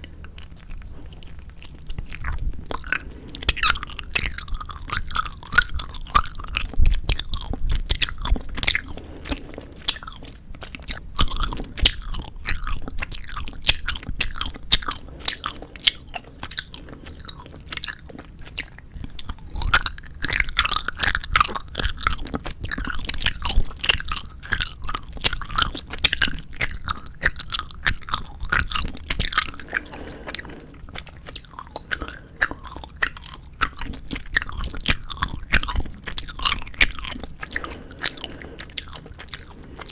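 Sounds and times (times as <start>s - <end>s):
close-miked chewing: 0.0s - 39.9s
wet mouth clicks: 0.0s - 39.9s.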